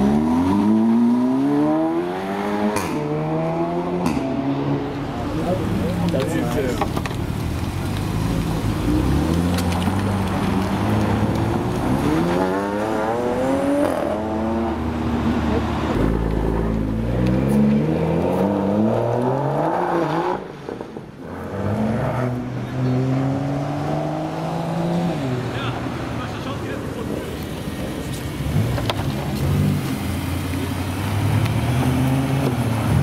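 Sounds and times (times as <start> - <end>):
cars accelerating hard: 0.0 - 6.8, 7.7 - 33.0.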